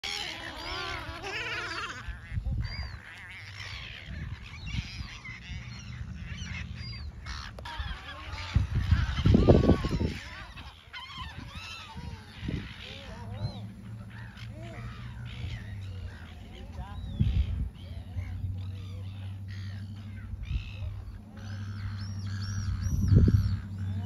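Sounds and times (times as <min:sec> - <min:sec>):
gulls calling: 0:00.0 - 0:24.0
low rumbling noise: 0:02.0 - 0:24.0.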